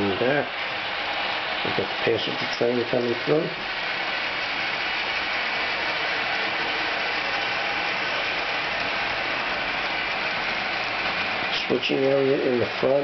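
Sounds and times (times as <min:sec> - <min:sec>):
model train motors whirring: 0:00.0 - 0:13.0.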